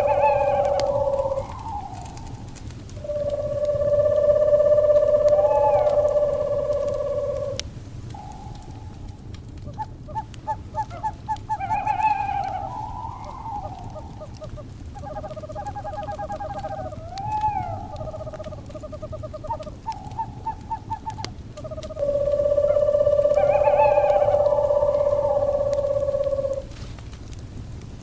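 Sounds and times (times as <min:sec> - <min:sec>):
owls hooting and trilling: 0:00.0 - 0:27.0
crackling fire: 0:00.0 - 0:28.0.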